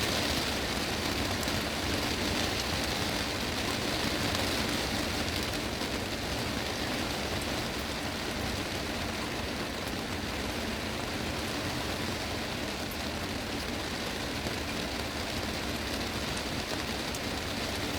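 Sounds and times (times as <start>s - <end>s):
heavy rain on glass roof: 0.0s - 17.9s
raindrops pattering: 0.0s - 17.9s.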